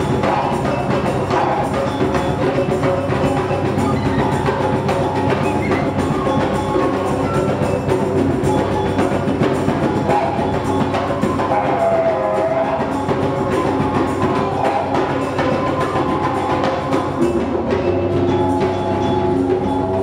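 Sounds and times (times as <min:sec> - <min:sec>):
didgeridoo drone: 0:00.0 - 0:20.0
flute melody: 0:00.0 - 0:20.0
hand drums and congas: 0:00.0 - 0:20.0.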